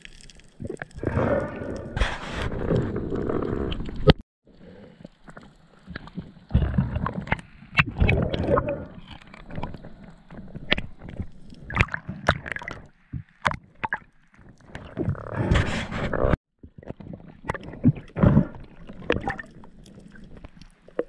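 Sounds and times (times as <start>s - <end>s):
water gurgling: 0.0s - 4.1s, 5.0s - 21.0s.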